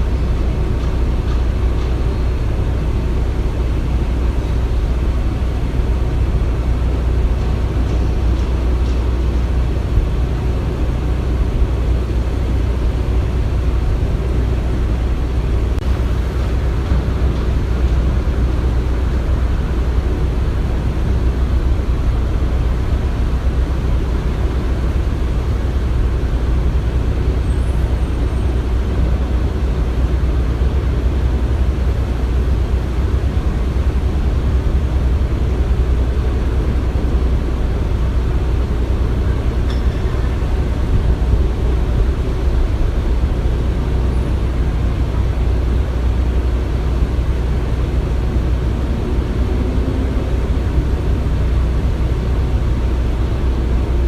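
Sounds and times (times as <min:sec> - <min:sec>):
deep rumble of heavy machinery: 0:00.0 - 0:54.0.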